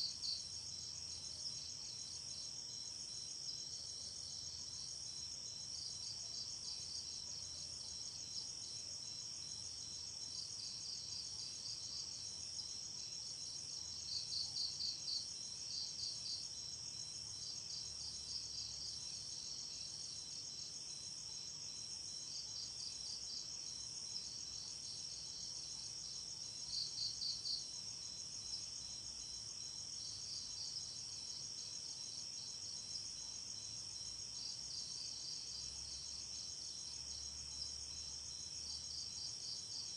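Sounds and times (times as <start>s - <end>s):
nearby cricket chirping trills: 0.0s - 39.9s.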